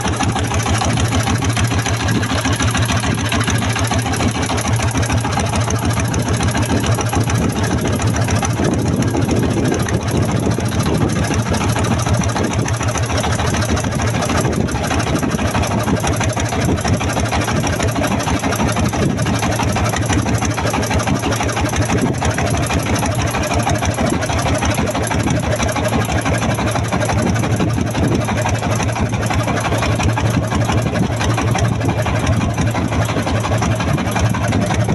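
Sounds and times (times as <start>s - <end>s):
boat engine chugging: 0.0s - 34.9s.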